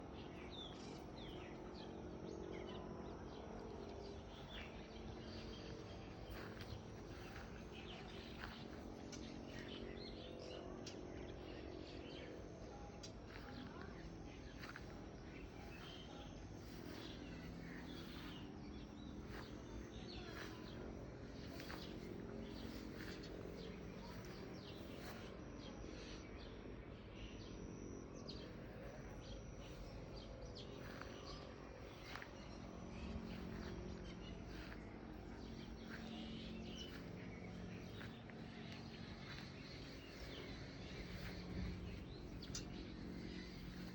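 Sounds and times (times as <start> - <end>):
birds chirping: 0.0 - 43.9
faint outdoor murmur: 0.0 - 43.9.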